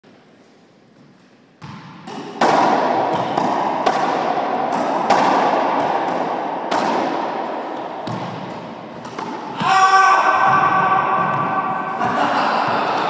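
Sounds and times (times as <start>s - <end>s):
racquetball hits echoing: 1.0s - 13.0s.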